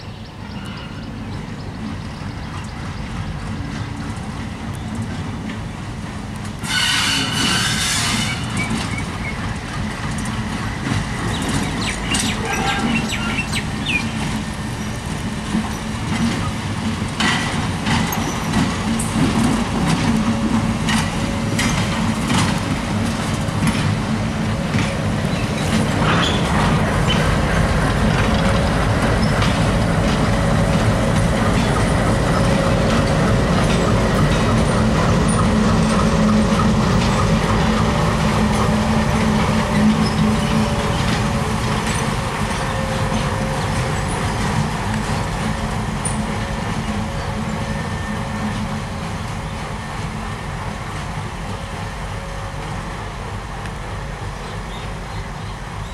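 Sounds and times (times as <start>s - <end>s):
locomotive engines droning: 0.0s - 55.9s
wheels clicking over rail joints: 0.5s - 52.8s.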